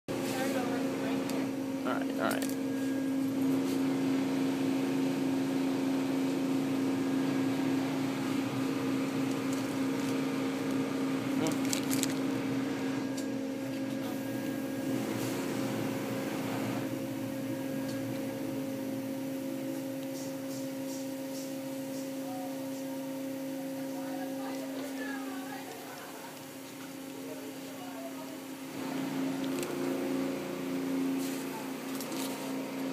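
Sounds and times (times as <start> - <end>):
car wash machinery humming: 0.0 - 32.9.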